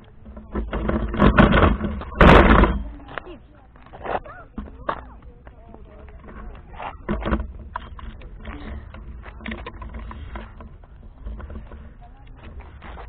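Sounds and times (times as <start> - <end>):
bicycle knocks and rattles: 0.0 - 3.3, 4.0 - 13.0
rumble of wind and tyres: 0.0 - 13.0.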